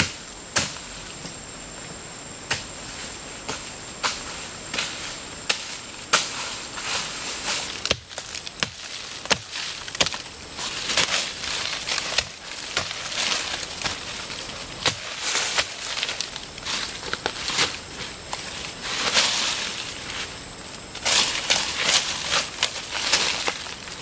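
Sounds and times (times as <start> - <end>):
dry leaves and soil rustling: 2.7 - 24.0.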